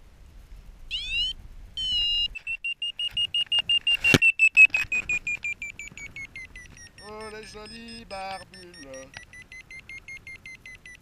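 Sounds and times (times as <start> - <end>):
variometer beeps: 0.9 - 11.0.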